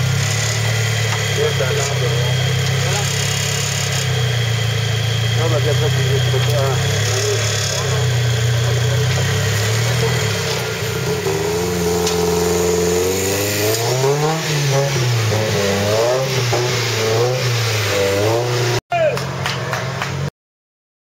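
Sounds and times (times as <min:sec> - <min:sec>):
buggy engine revving under load: 0:00.0 - 0:20.3.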